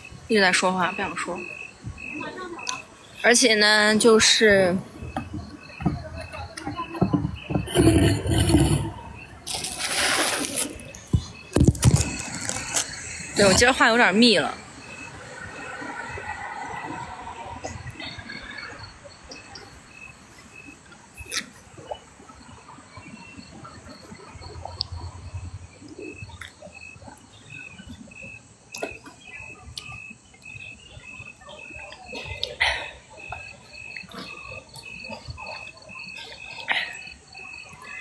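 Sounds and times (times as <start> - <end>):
insect chirping: 0.0 - 38.0.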